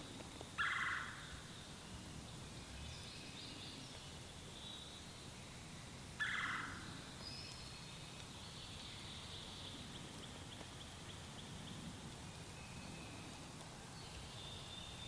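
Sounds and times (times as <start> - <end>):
faint songbirds calling: 0.1 - 15.0.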